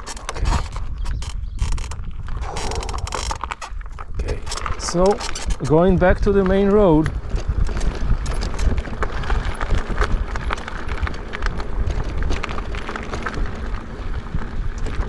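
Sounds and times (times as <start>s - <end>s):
bike rattling clicks and knocks: 0.0s - 15.0s
wind rumbling on microphone: 0.0s - 15.0s.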